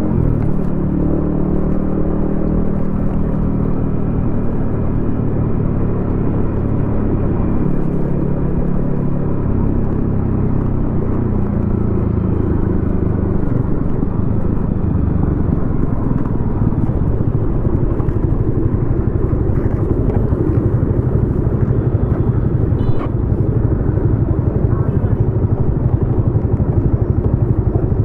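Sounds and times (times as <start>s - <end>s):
motorcycle engine running: 0.0s - 28.0s
road and traffic noise: 0.0s - 28.0s.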